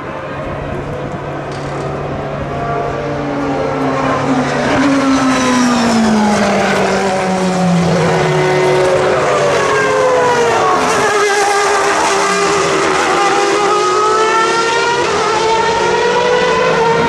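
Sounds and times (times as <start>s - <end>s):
racing cars passing at speed: 0.0s - 17.0s.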